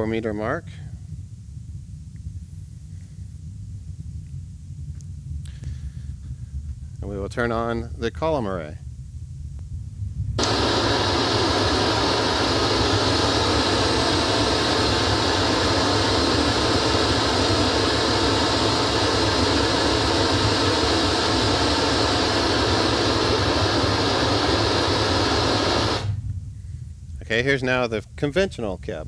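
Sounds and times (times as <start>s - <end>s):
hiss-like test noise with deep bass: 0.0s - 29.0s.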